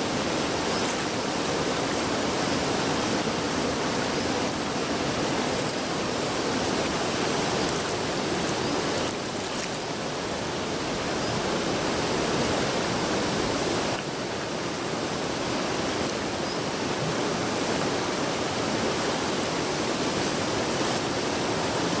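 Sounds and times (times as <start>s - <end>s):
rush of turbulent river water: 0.0s - 22.0s.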